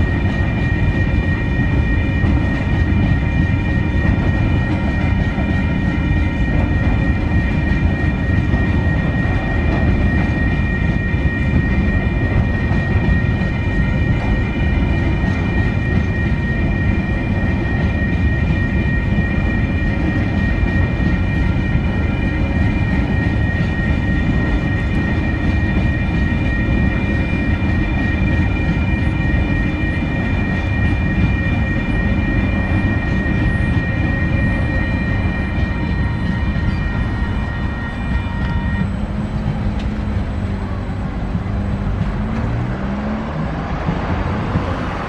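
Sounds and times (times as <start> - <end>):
freight train wheels rumbling on rail: 0.0 - 45.0
high-pitched ringing tones: 0.0 - 45.0.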